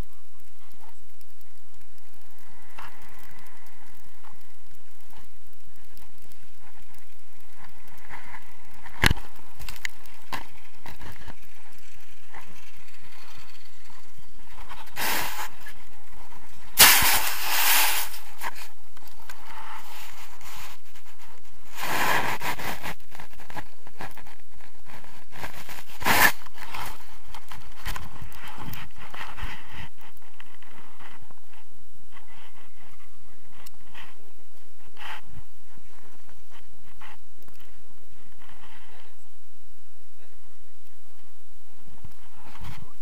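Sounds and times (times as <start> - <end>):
clicks and crackles: 0.0 - 39.4, 40.2 - 43.0
scraping and rustling in snow: 2.0 - 39.2.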